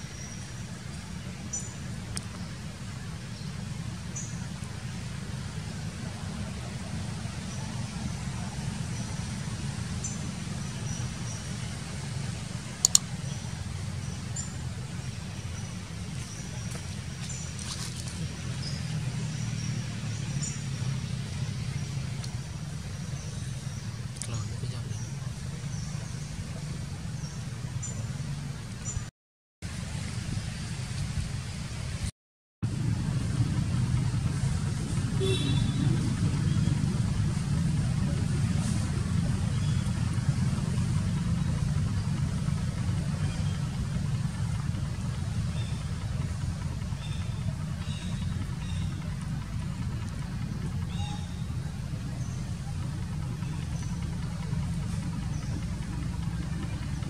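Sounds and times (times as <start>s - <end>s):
distant traffic rumble: 0.0s - 57.0s.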